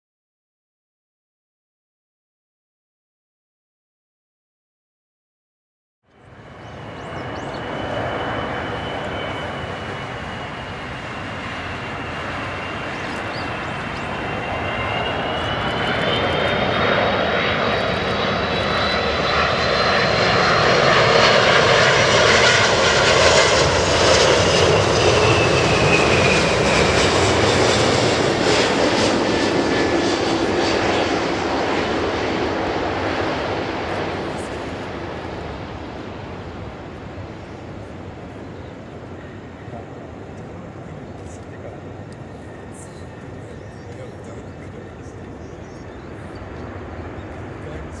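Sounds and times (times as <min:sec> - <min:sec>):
jet engines rushing with high whine: 0:06.1 - 0:48.0.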